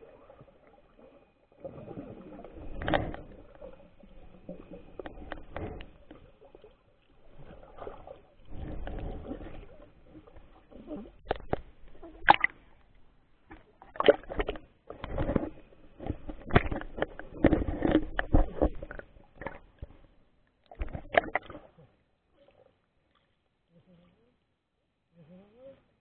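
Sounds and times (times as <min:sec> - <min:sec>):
water sloshing: 0:00.0 - 0:21.8.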